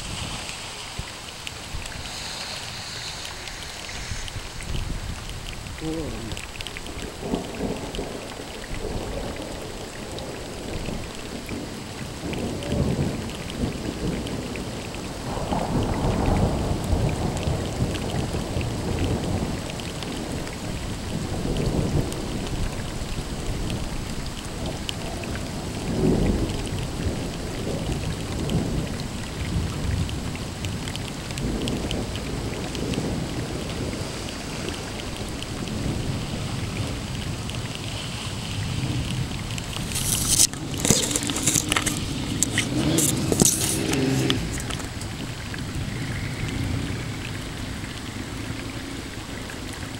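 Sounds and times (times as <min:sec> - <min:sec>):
steady rain falling: 0:00.0 - 0:49.9
thunder rumbling: 0:00.0 - 0:49.9.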